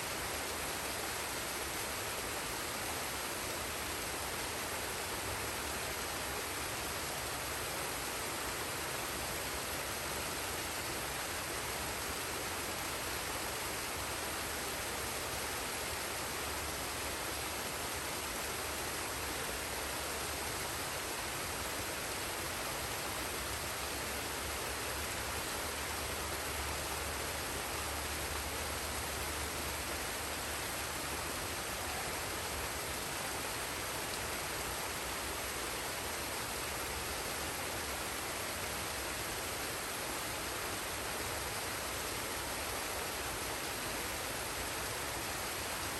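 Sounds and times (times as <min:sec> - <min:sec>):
waterfall and stream rushing: 0:00.0 - 0:45.9.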